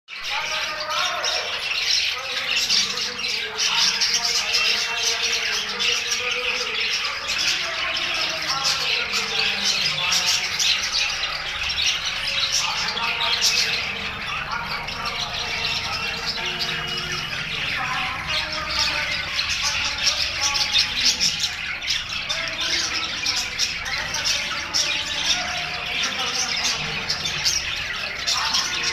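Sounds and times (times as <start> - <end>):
budgerigars chattering: 0.1 - 28.9.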